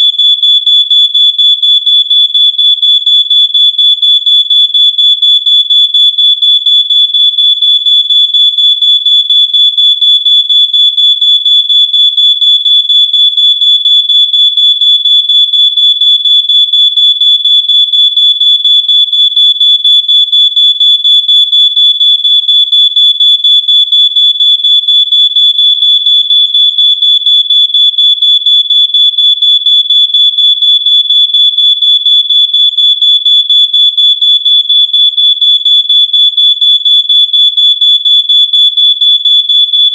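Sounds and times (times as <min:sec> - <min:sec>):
smoke alarm beeping: 0:00.0 - 0:39.9.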